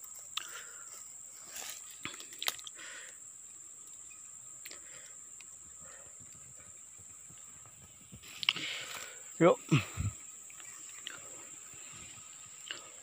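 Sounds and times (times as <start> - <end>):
vegetation rustling and clicks: 0.0 - 3.2, 3.8 - 13.0
high insect whine: 0.0 - 13.0.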